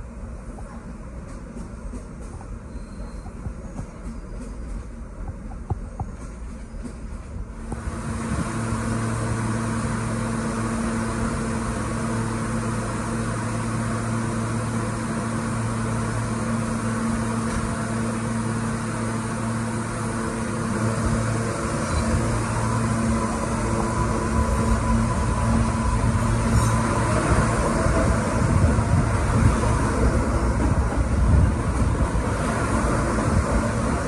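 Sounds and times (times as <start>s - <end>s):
subway train equipment hum: 0.0s - 34.0s.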